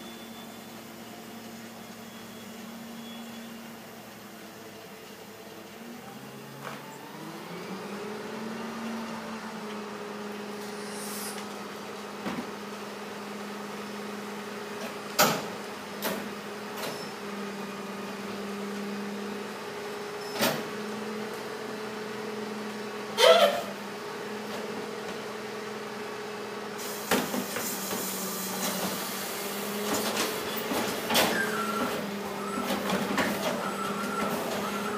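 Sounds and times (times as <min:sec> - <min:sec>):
garbage truck engine droning: 0:00.0 - 0:34.9.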